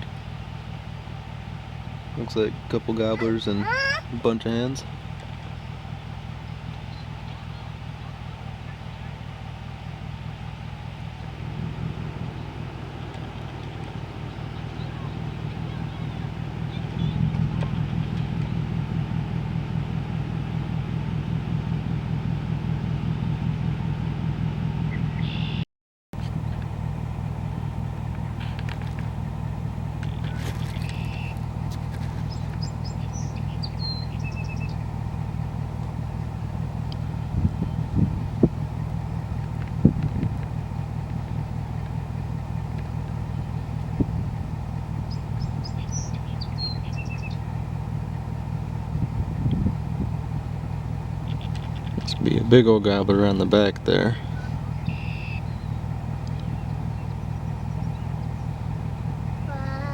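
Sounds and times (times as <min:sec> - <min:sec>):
songbirds chirping: 0:00.0 - 0:19.8, 0:26.2 - 0:39.8, 0:40.4 - 0:49.2, 0:49.8 - 0:59.9
vehicle engine rumbling: 0:00.0 - 0:59.9.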